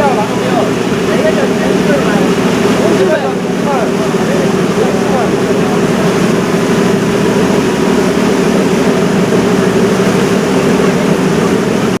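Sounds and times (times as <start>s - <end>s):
ship engine low drone: 0.0s - 12.0s.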